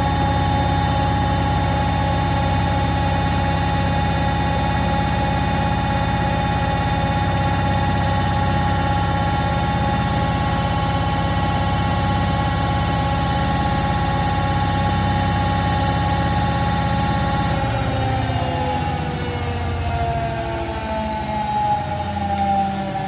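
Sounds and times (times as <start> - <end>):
washing machine spinning: 0.0 - 23.0.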